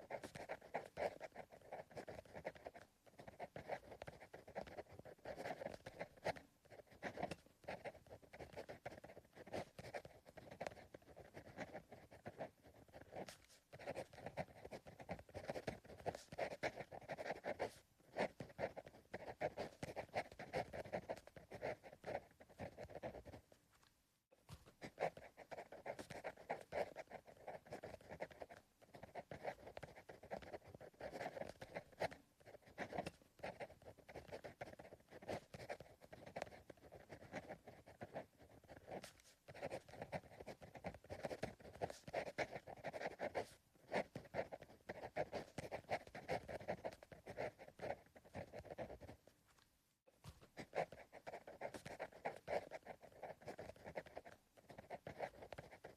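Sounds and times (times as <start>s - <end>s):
pencil scratching on paper: 0.0s - 49.6s, 50.2s - 55.9s.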